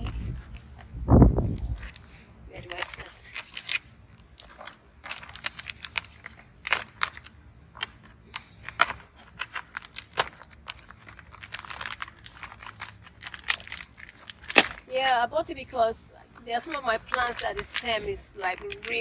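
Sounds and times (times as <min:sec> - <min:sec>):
plastic packaging crinkling: 0:01.7 - 0:15.1, 0:16.4 - 0:19.0.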